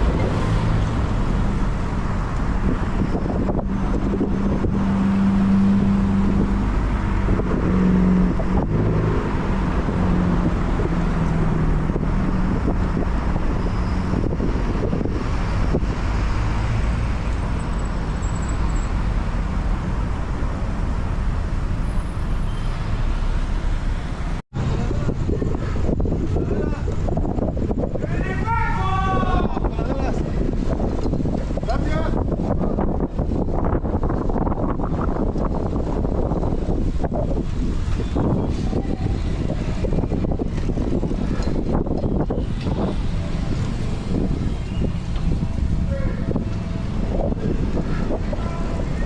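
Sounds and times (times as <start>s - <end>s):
road traffic rush: 0.0s - 49.0s
vehicle engine humming: 0.0s - 49.0s.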